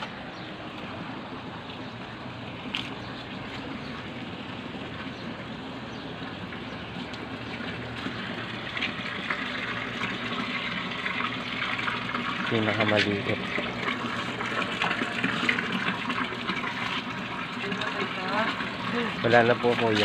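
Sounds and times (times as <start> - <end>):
water running and splashing: 0.2 - 20.0.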